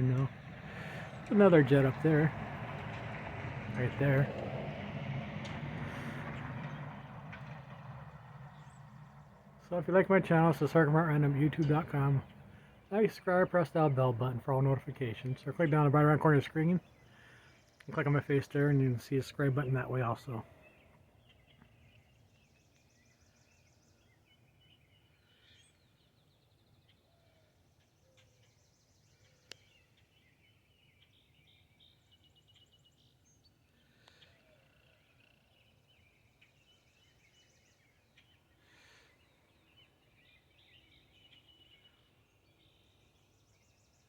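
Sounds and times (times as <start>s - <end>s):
birds chirping and trilling: 0.0s - 3.1s, 5.4s - 44.0s.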